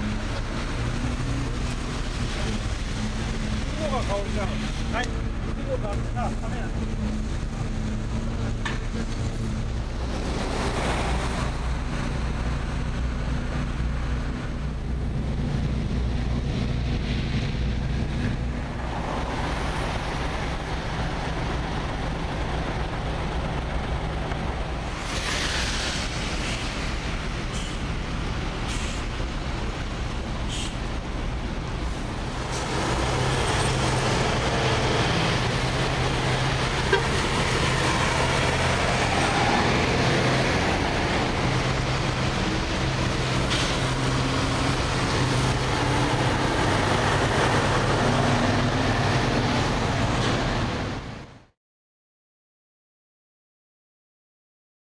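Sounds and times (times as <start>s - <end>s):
idling engines hum: 0.0s - 51.2s
truck tyres hissing on wet road: 0.0s - 51.3s.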